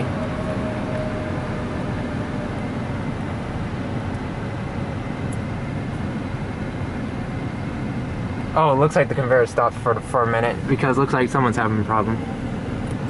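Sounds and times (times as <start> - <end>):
car wash equipment rumble: 0.0 - 13.0.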